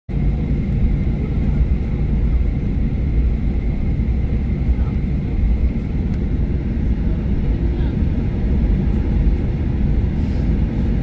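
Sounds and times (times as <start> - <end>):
low rumble of engines and airflow: 0.1 - 11.0.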